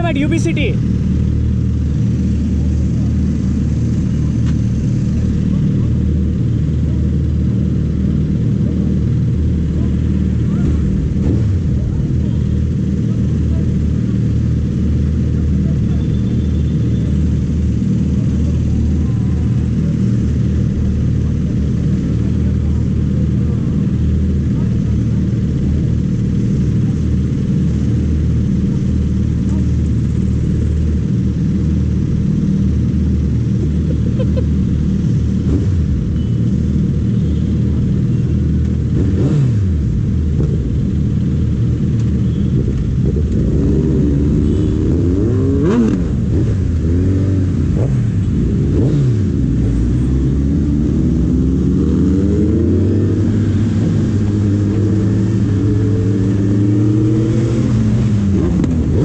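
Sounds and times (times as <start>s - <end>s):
motorcycle engine idling and revving: 0.0s - 59.0s
other vehicle engines: 0.0s - 59.0s.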